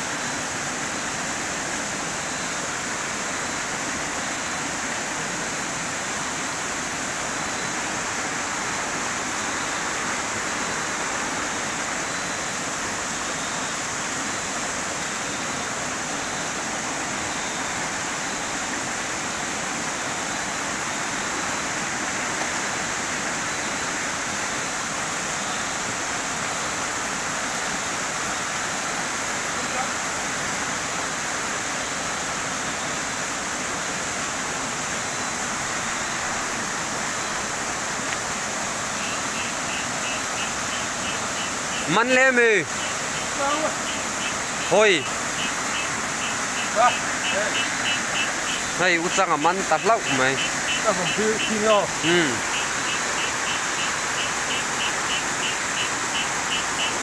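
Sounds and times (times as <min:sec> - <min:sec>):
stream rushing over stones: 0:00.0 - 0:57.0.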